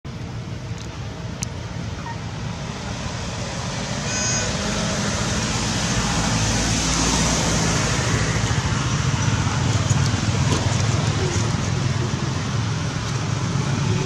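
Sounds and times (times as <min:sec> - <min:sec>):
steady rushing noise: 0:00.1 - 0:14.0.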